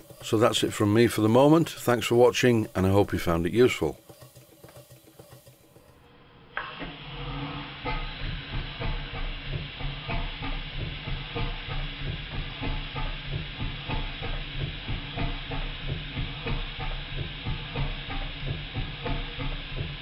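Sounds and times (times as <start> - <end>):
model steam engine chuffing: 0.0 - 5.8, 7.4 - 20.0
mechanical knocking: 0.0 - 5.9, 7.7 - 20.0.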